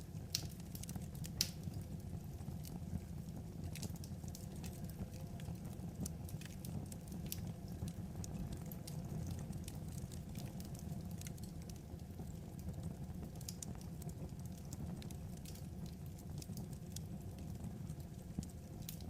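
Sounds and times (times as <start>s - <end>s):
fire crackling and popping: 0.0s - 19.0s
low rumble of burning logs: 0.0s - 19.0s.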